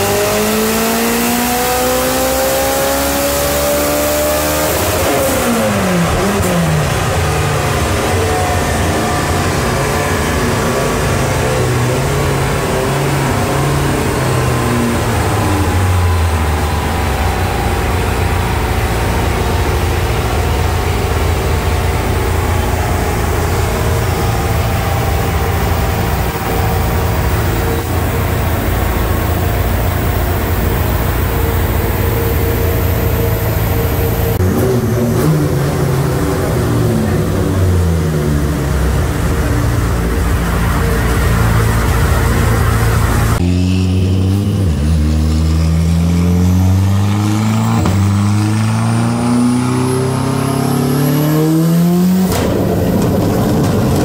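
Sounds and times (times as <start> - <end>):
race car engine running: 0.0 - 54.0.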